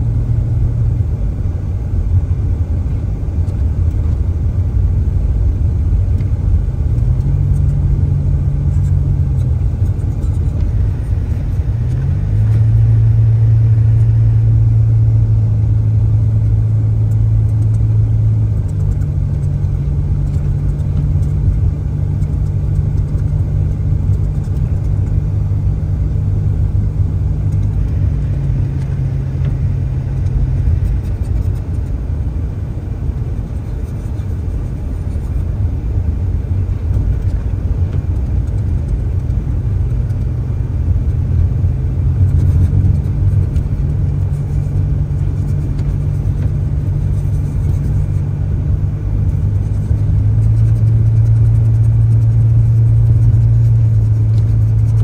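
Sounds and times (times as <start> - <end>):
car engine and tyre drone: 0.0 - 55.0.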